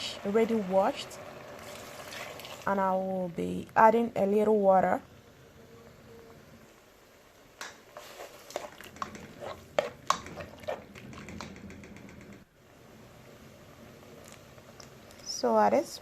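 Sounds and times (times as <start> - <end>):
soft steady noise: 0.0 - 16.0.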